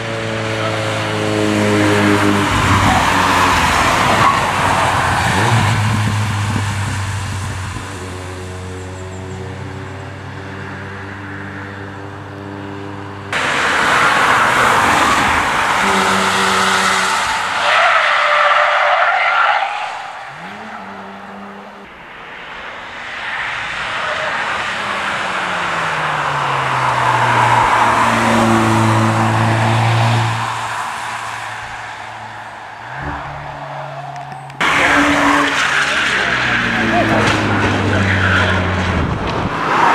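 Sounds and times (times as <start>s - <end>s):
race car engine: 0.0s - 39.9s
tyres rushing and skidding: 0.0s - 39.9s.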